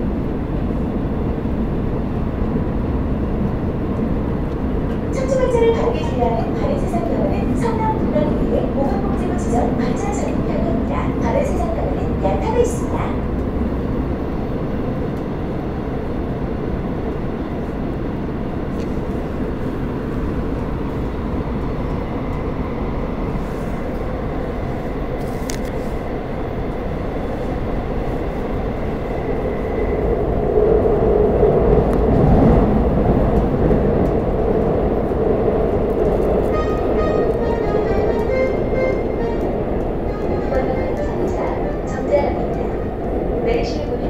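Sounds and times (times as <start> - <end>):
subway train wheels and motors rumbling: 0.0 - 44.0.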